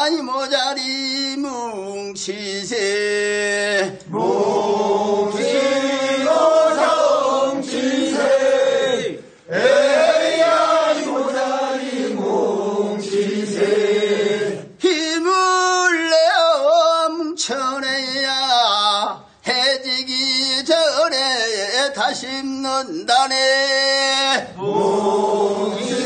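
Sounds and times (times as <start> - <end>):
men singing in unison: 0.0 - 26.0.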